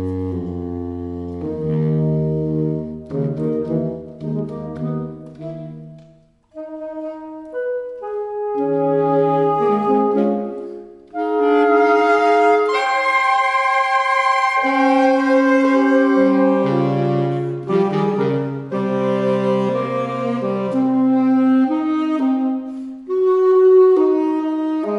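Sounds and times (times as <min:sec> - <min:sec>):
saxophones playing chamber music: 0:00.0 - 0:24.9.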